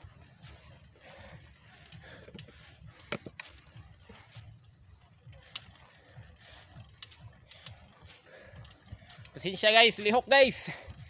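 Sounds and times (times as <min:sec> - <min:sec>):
mountain bike rattling: 0:00.0 - 0:11.0.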